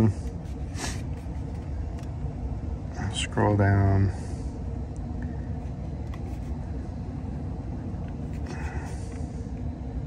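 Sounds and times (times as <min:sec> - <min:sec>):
air conditioning hum: 0:00.0 - 0:10.0.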